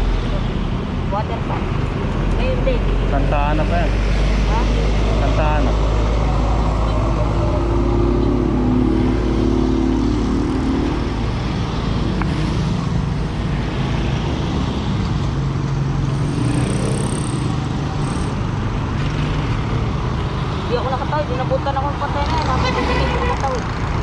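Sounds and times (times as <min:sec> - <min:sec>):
road traffic noise: 0:00.0 - 0:24.0
vehicle engines rumbling: 0:00.0 - 0:24.0.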